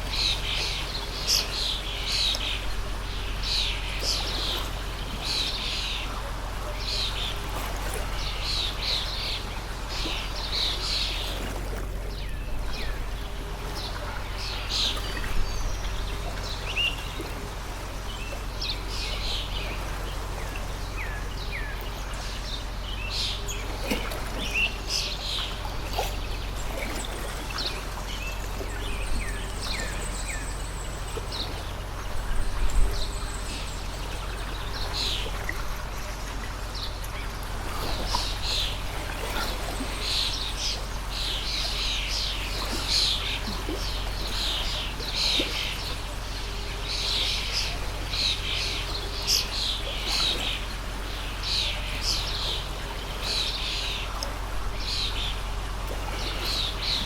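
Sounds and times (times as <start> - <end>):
songbirds chirping: 0.0 - 57.0
stream rushing: 0.0 - 57.0.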